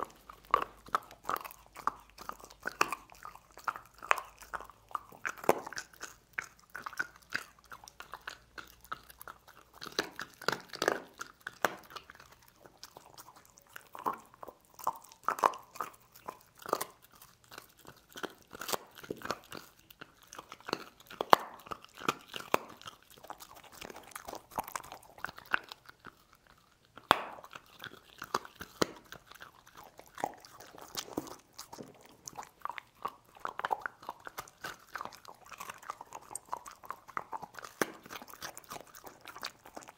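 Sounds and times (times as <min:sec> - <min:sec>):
dog crunching bones: 0:00.0 - 0:39.9.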